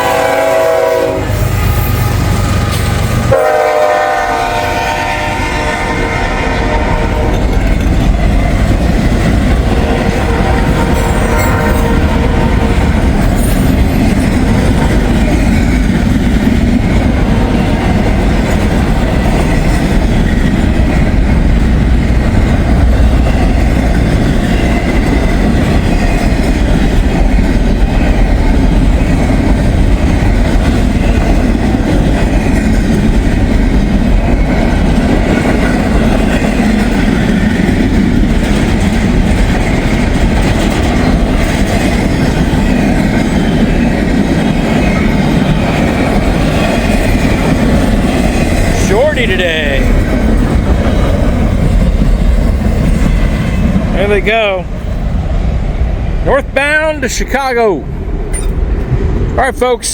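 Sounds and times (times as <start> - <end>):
train wheels rumbling on rail: 0.0 - 59.9
clickety-clack over rail joints: 6.6 - 59.9.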